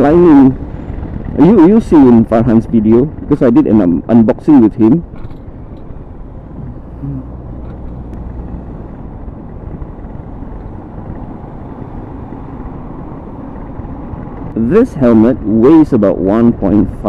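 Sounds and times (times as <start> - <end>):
motorcycle running: 0.0 - 17.0
wind rumble: 0.0 - 17.0.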